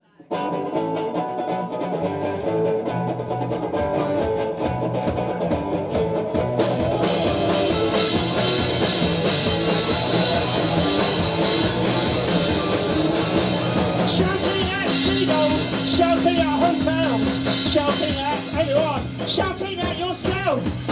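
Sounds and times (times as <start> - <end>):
guitar riff: 0.0 - 20.9
bass guitar: 0.3 - 20.9
live rock band playing: 0.3 - 20.9.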